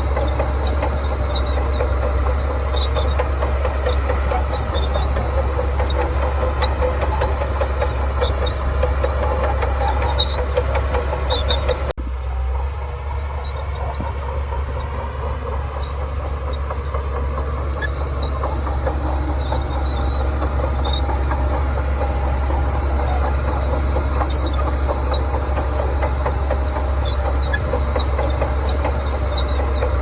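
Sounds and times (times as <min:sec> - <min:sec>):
steel tracks clanking: 0:00.0 - 0:11.9, 0:12.6 - 0:30.0
bulldozer diesel engine running: 0:00.0 - 0:30.0.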